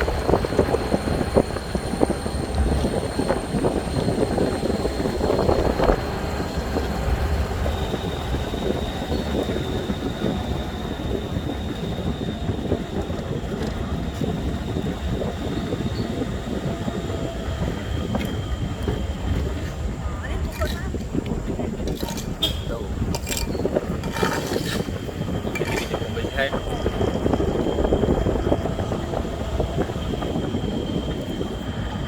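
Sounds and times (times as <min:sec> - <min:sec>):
truck engine rumble and rattle: 0:00.0 - 0:32.0.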